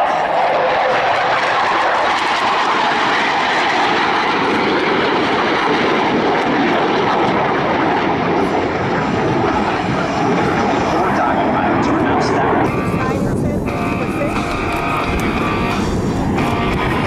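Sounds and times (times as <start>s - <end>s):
jet noise in flight: 0.0s - 17.0s.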